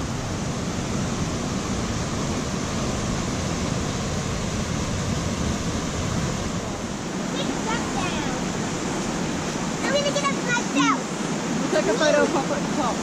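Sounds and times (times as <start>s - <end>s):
river rushing over rapids: 0.0s - 13.0s.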